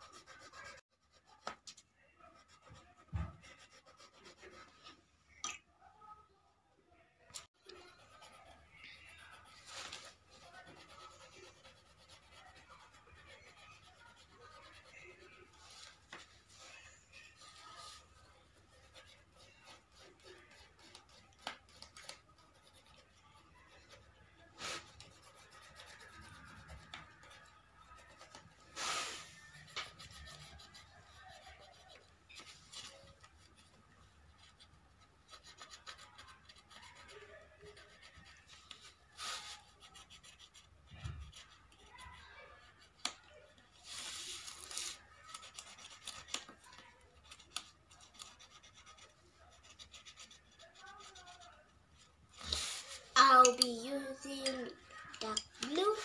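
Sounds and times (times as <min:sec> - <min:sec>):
pencil scribbling on paper: 0:00.0 - 0:05.0, 0:07.6 - 0:43.2, 0:43.8 - 0:53.6.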